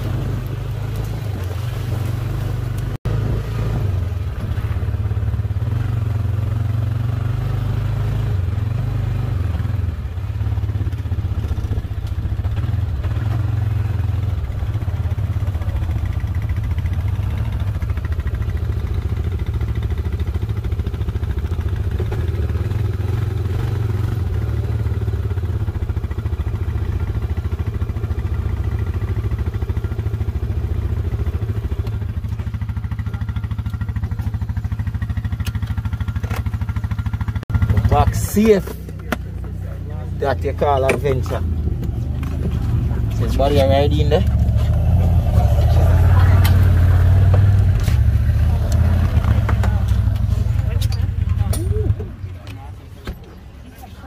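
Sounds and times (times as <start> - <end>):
off-road vehicle engine drone: 0.0 - 54.0.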